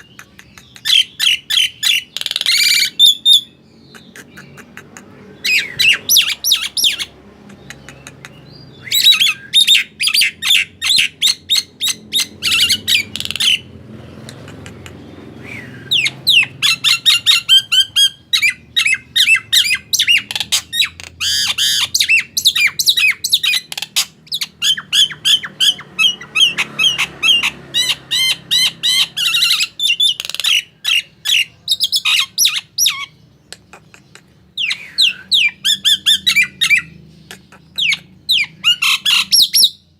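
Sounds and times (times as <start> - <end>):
bird squawking and whistling: 0.6 - 4.5, 5.2 - 13.7, 15.3 - 33.2, 34.6 - 39.9.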